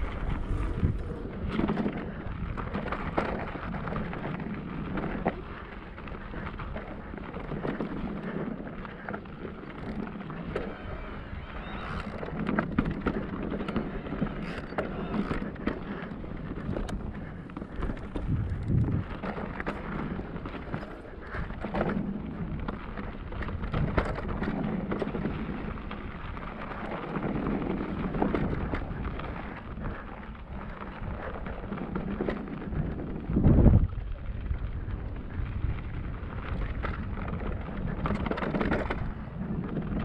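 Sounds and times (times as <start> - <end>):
bike rattles and knocks: 0.0 - 10.9, 11.6 - 40.0
tyres rolling over gravel: 0.0 - 40.0
wind rumble on microphone: 0.0 - 40.0.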